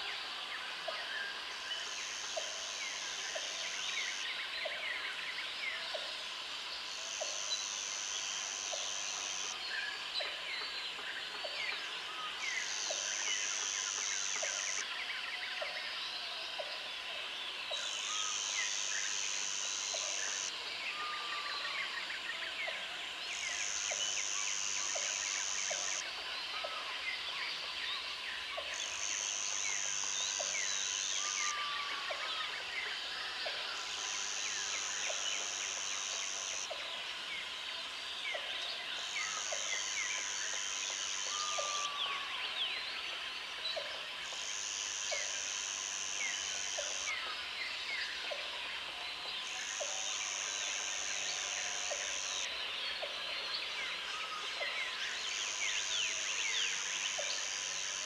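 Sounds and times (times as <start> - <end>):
chorus of birds and insects: 0.0 - 58.0.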